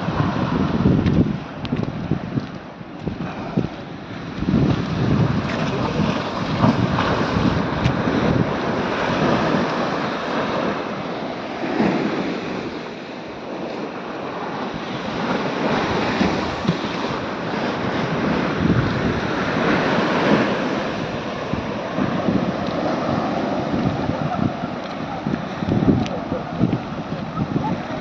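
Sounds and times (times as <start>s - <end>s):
storm surf against sea wall: 0.0s - 28.0s
wind gusting on microphone: 0.0s - 28.0s.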